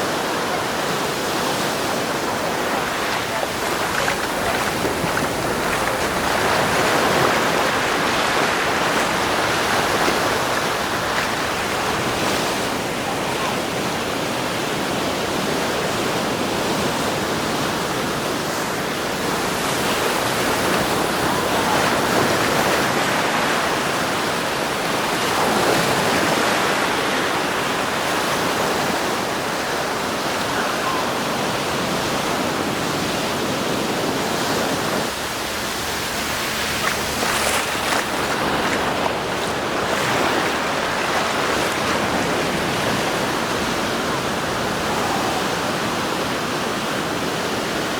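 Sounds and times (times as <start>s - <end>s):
surf washing onto beach: 0.0s - 47.9s.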